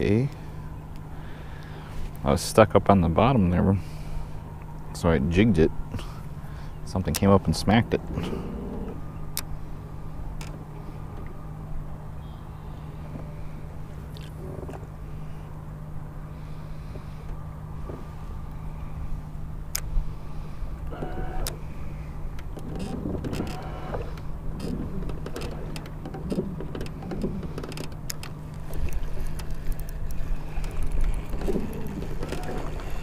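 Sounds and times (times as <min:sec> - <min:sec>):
boat low hum: 0:00.0 - 0:33.0
water noise: 0:00.0 - 0:33.0
wind: 0:00.0 - 0:33.0.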